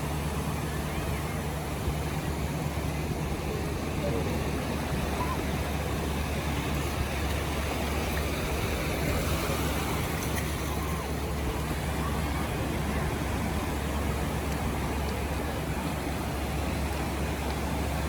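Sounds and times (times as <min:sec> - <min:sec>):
surf: 0:00.0 - 0:18.0.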